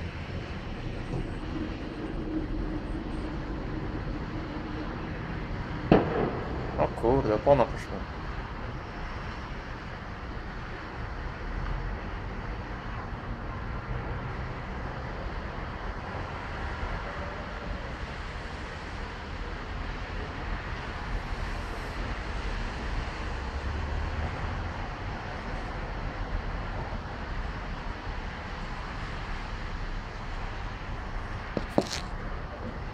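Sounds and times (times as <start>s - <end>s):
distant street traffic rumble: 0.0s - 32.9s.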